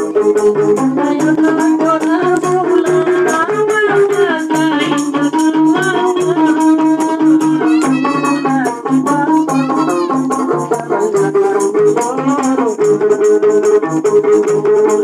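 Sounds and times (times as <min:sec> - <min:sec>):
lute melody: 0:00.0 - 0:15.0
tambourine shaking a quick beat: 0:00.0 - 0:15.0.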